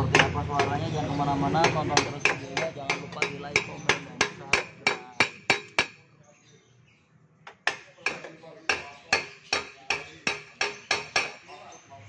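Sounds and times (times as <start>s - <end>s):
hammer striking metal: 0.0s - 6.0s, 7.5s - 11.4s.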